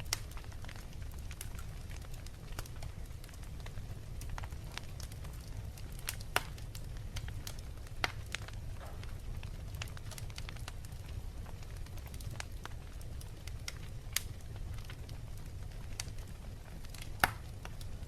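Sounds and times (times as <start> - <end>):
fire crackling and popping: 0.0 - 18.0
low rumble of burning fire: 0.0 - 18.0.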